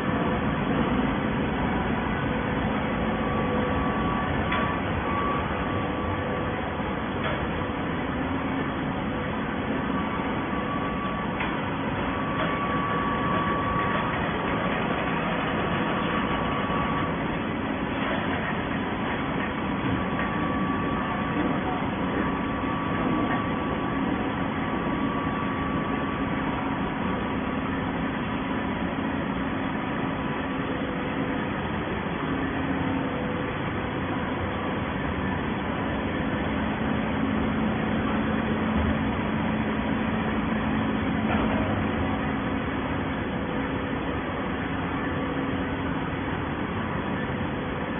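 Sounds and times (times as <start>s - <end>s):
baling machine humming: 0.0s - 47.9s.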